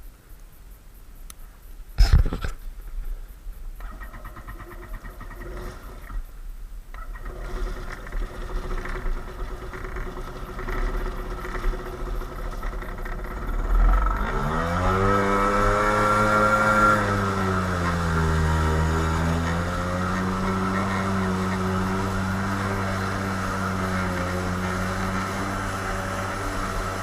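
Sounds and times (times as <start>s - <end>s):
jet ski engine revving: 3.8s - 6.3s, 6.9s - 27.0s.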